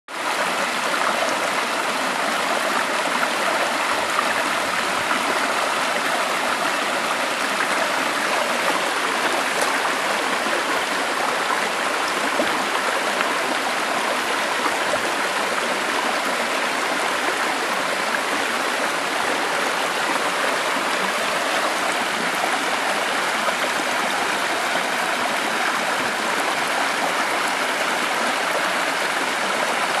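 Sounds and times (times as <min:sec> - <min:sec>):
stream flowing: 0:00.1 - 0:30.0.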